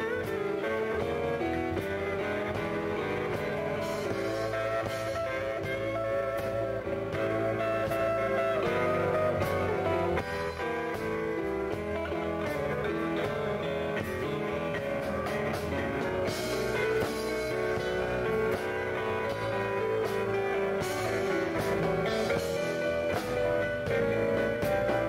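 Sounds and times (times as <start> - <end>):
guitar leading: 0.0 - 25.0
keyboards: 0.0 - 25.0
steady drum beat: 0.0 - 25.0.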